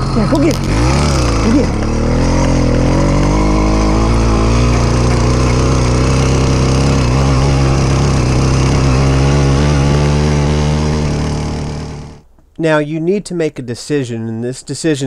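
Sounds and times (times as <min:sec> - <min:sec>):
small single-cylinder engine running: 0:00.0 - 0:12.2.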